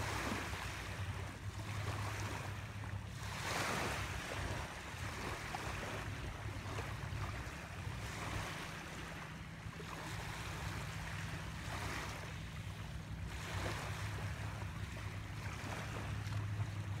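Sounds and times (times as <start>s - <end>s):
lake waves washing against shore: 0.0s - 17.0s.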